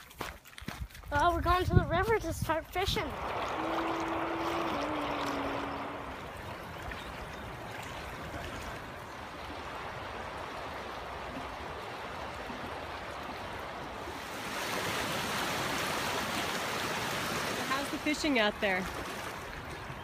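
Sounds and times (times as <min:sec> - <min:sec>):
river flowing over rocks: 0:03.0 - 0:19.8.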